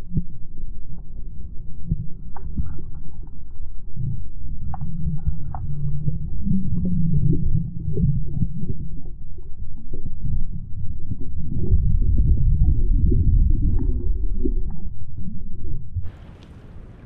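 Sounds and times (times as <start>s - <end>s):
underwater rumble of moving water: 0.0s - 17.0s.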